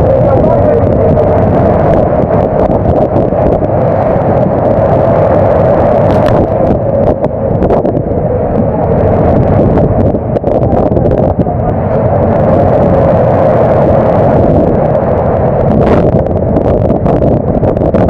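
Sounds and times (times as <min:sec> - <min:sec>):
boat machinery drone: 0:00.0 - 0:18.0
breaking sea: 0:00.0 - 0:18.0
rain: 0:00.0 - 0:18.0
wind: 0:00.0 - 0:18.0.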